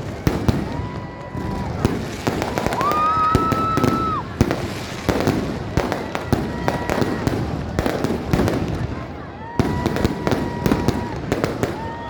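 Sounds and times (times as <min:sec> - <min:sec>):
fireworks bangs and pops: 0:00.0 - 0:12.0
whistling firework: 0:00.0 - 0:12.0.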